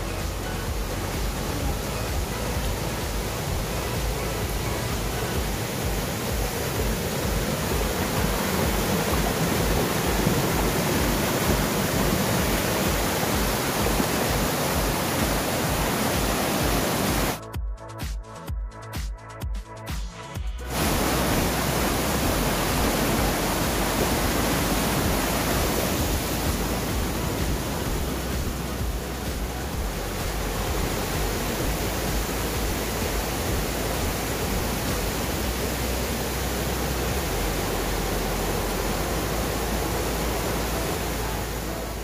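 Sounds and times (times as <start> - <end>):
mountain stream rushing: 0.0 - 17.4, 20.6 - 42.0.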